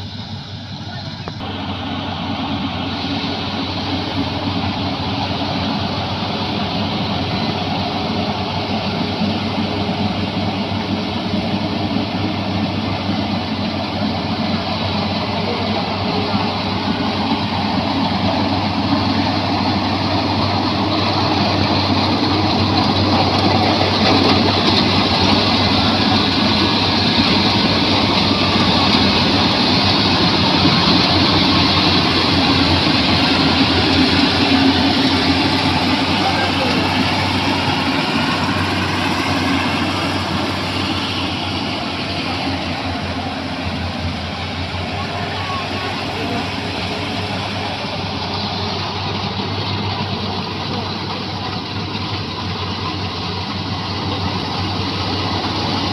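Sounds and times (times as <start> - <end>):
combine harvester machinery hum: 0.0 - 55.9.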